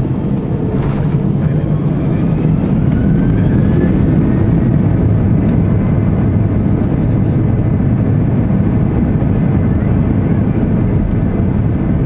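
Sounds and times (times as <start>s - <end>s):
jet engine and rolling noise: 0.0s - 12.0s.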